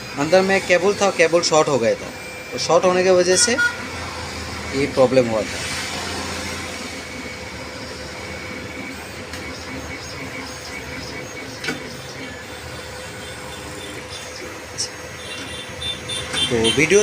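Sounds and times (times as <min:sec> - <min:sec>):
stepper motors humming and whining: 0:00.0 - 0:17.0.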